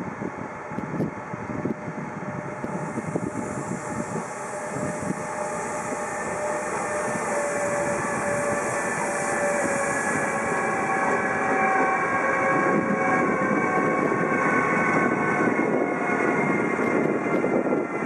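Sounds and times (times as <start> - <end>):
freight train rumble: 0.0 - 18.0
multi-tone locomotive whine: 0.0 - 18.0.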